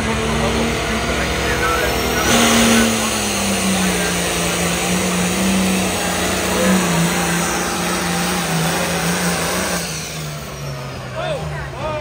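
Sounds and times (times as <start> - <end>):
tractor engine droning flat out: 0.0 - 12.0.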